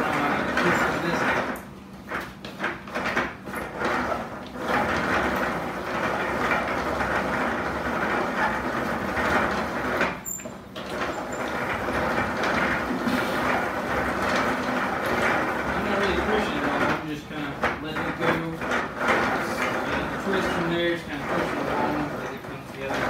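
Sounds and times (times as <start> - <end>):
rope-making machine rattling: 0.0 - 23.0.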